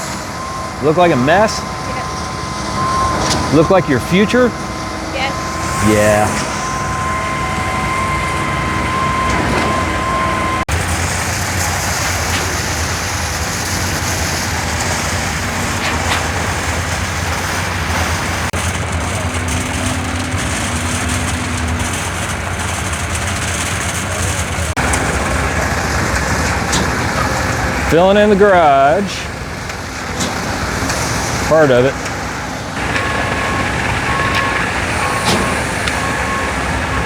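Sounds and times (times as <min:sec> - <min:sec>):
diesel truck engines running: 0:00.0 - 0:37.0.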